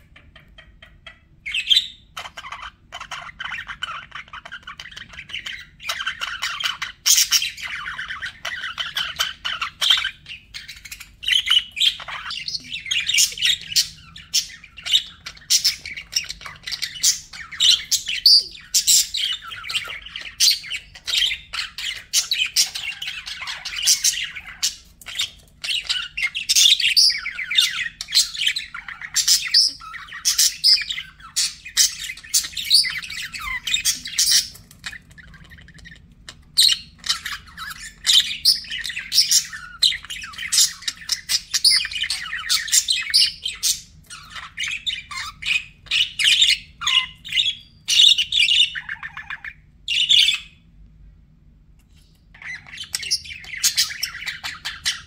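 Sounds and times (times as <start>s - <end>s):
bird squawks: 0.0s - 50.6s, 52.3s - 55.0s
budgerigars chattering and warbling: 0.0s - 50.7s, 52.0s - 55.0s.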